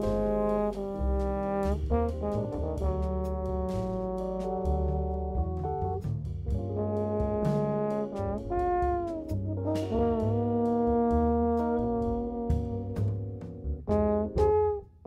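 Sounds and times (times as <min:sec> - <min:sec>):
drums with cymbal hits: 0:00.0 - 0:13.2
trombone lead: 0:00.0 - 0:14.8
upright bass: 0:00.0 - 0:15.0.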